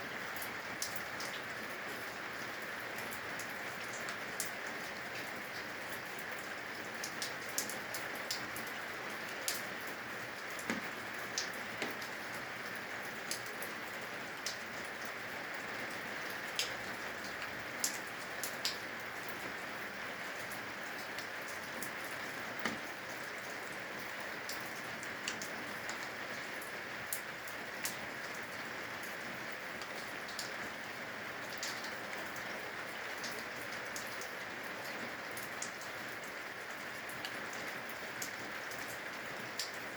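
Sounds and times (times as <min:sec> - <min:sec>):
rain dripping from eaves: 0:00.0 - 0:39.9
steady rain falling: 0:00.0 - 0:39.9.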